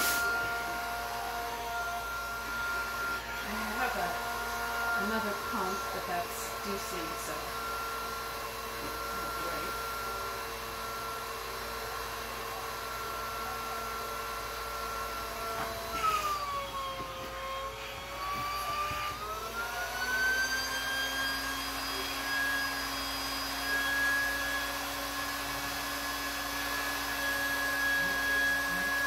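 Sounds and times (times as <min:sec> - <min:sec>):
electric air pump whirring: 0:00.0 - 0:29.0.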